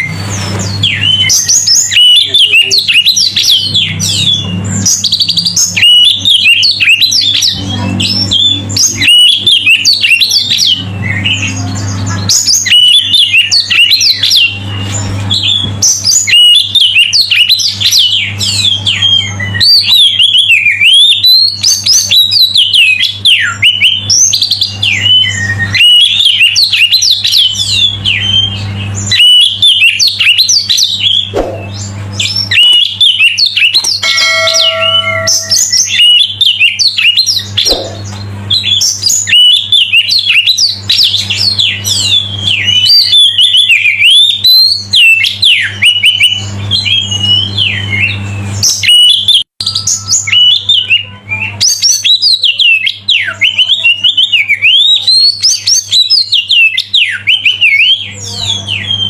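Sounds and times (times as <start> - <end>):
steady low hum: 0.0 - 52.3
bird singing whistles and chirps: 0.0 - 59.0.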